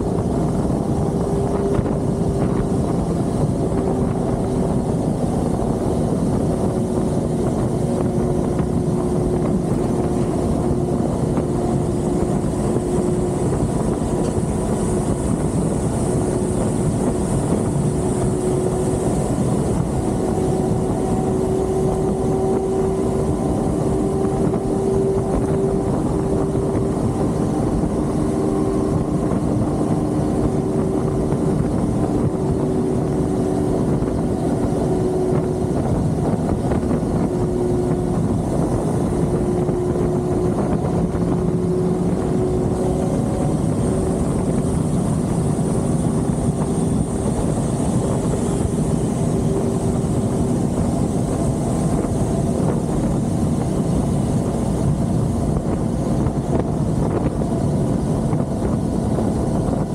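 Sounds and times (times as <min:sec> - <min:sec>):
motorcycle engine cruising: 0:00.0 - 0:59.9
wind rush over microphone: 0:00.0 - 0:59.9.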